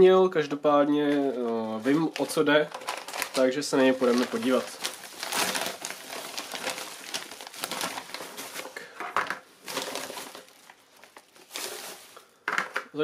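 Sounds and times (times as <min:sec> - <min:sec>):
paper envelope crinkling: 0:01.0 - 0:12.8.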